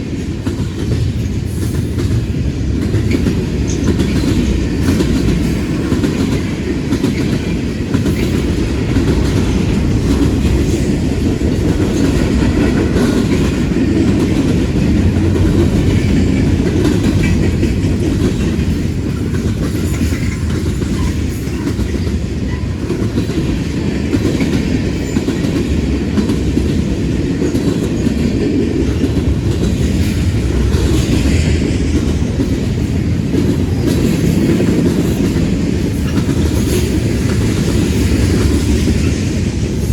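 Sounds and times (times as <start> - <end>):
freight train rolling past: 0.0 - 39.9
wheels clacking over rail joints: 0.1 - 39.9.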